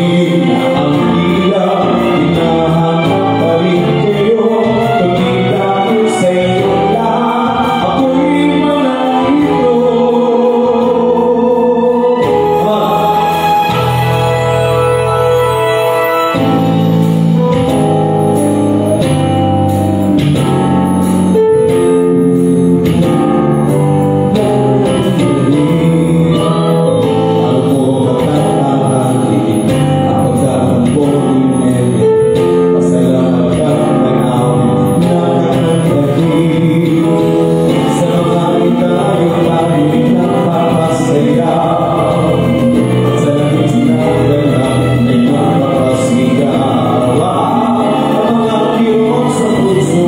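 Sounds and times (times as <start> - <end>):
amplified backing music: 0.0 - 50.0
man singing into a microphone: 0.0 - 50.0.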